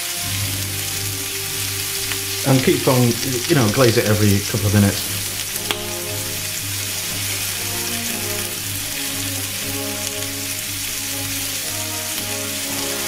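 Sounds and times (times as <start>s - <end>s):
background music: 0.0s - 13.0s
sauce bubbling: 0.0s - 13.0s
skewers sizzling on a griddle: 0.0s - 13.0s.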